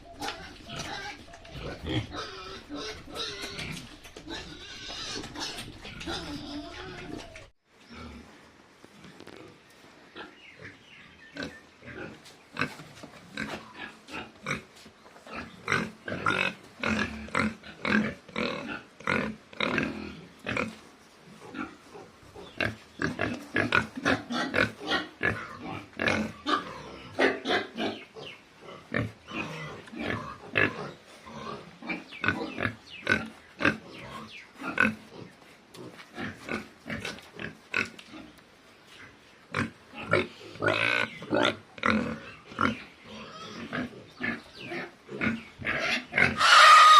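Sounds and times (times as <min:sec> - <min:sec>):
pigs grunting and squealing: 0:00.0 - 0:08.3, 0:15.3 - 0:20.8, 0:21.4 - 0:38.3, 0:39.5 - 0:46.9.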